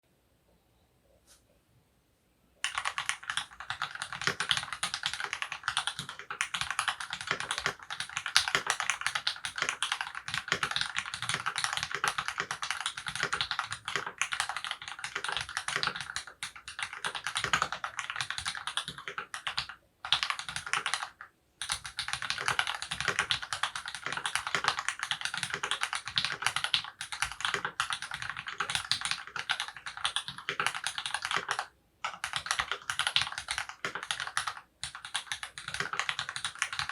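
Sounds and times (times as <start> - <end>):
fast typing on mechanical keyboard: 2.6 - 36.9.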